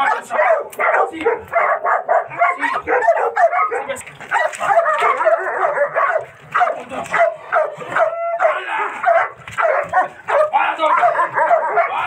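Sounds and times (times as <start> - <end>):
dog barking rapidly: 0.0 - 12.0.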